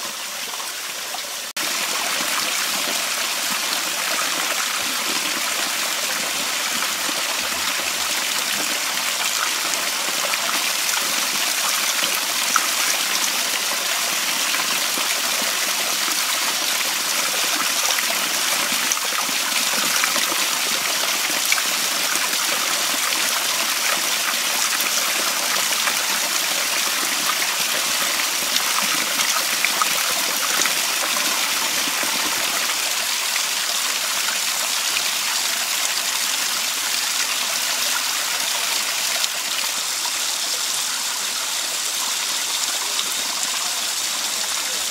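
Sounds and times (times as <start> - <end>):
small waterfall over rocks: 0.0 - 44.9.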